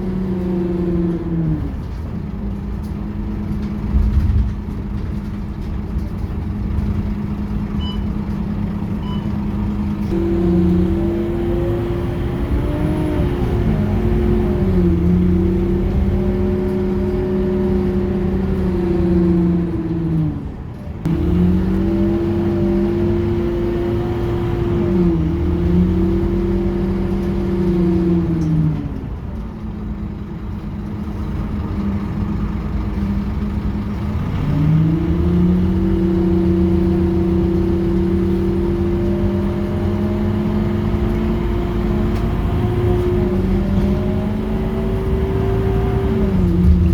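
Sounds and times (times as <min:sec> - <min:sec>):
bus engine rumble and whine: 0:00.0 - 0:46.9.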